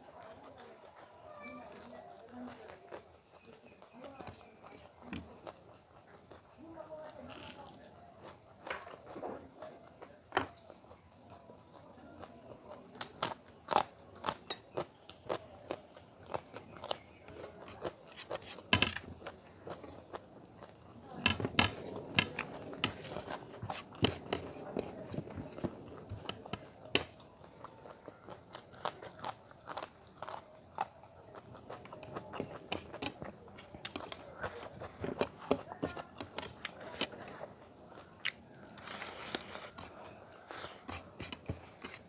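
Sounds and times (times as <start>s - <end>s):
crunchy bites and chewing: 0.1s - 42.0s.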